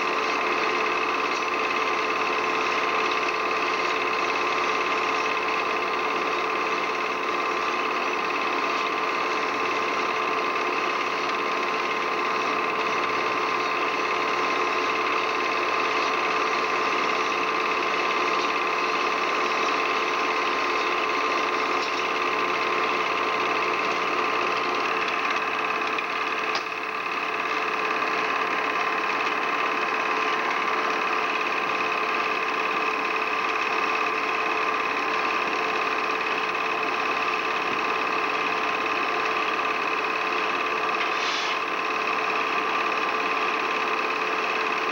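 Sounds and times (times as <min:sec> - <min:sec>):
small machine whirring: 0:00.0 - 0:44.9.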